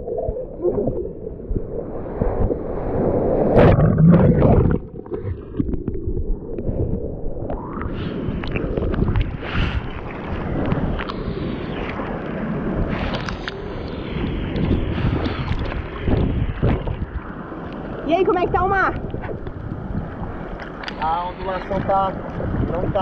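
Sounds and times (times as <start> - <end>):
sea water splashing and rushing: 0.0 - 23.0
wind buffeting microphone: 0.0 - 23.0.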